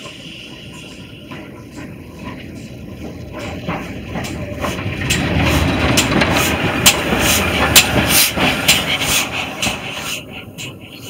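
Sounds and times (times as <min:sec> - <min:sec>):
railway carriage rumbling: 0:00.0 - 0:11.0.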